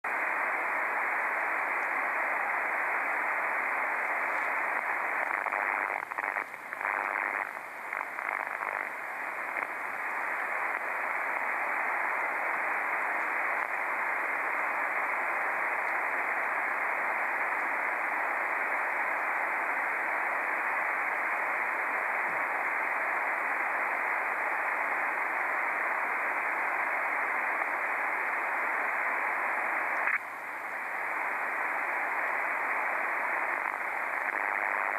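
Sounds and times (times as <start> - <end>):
radio pulse noise: 0.0 - 34.9.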